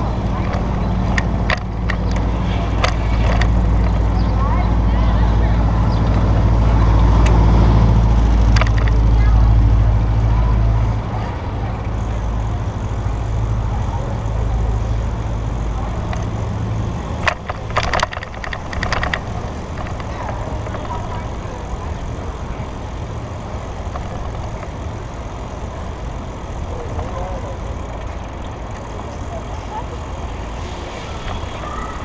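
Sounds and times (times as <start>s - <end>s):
bicycle clicks and rattles: 0.0s - 32.0s
traffic noise: 0.0s - 32.0s
wind and road rumble: 0.0s - 32.0s.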